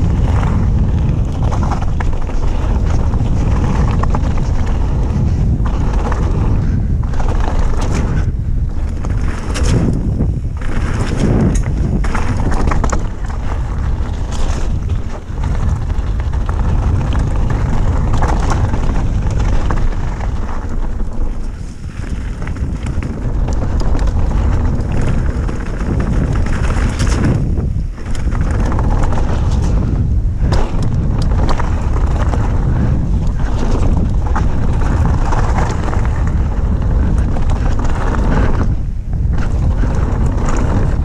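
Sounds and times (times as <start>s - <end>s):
bike rattles and knocks: 0.0s - 41.0s
tyres rumbling on dirt trail: 0.0s - 41.0s
wind buffeting camera: 0.0s - 41.0s.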